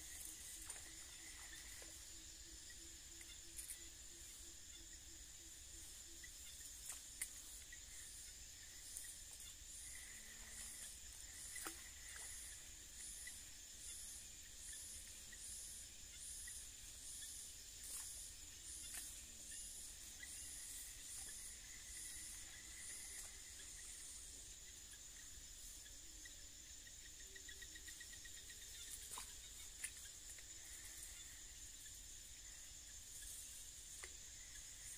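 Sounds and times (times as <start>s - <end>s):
insects buzzing: 0.0s - 34.9s.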